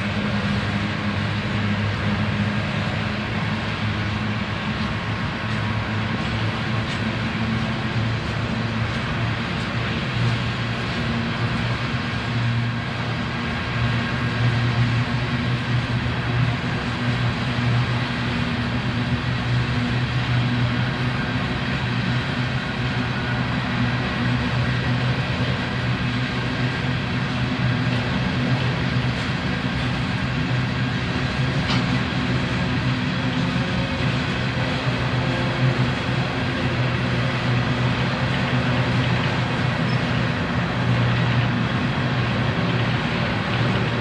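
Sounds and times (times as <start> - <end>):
steel wheels rolling on rail: 0.0 - 44.0.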